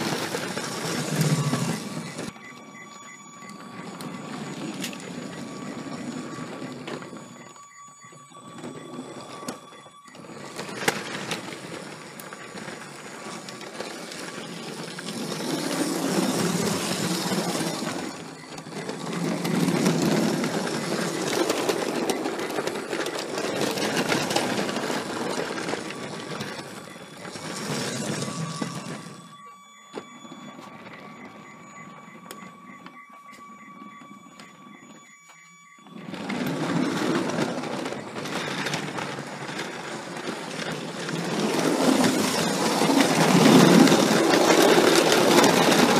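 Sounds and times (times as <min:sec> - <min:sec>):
thin steady whine: 0:00.0 - 0:45.9
toy train rumbling clatter: 0:00.0 - 0:45.9.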